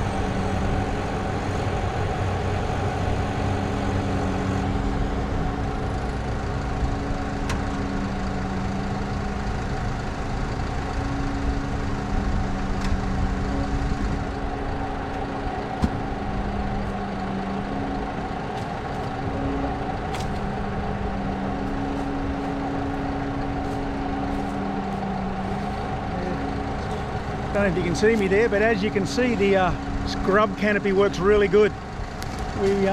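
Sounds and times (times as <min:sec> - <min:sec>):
bulldozer diesel engine under load: 0:00.0 - 0:32.9.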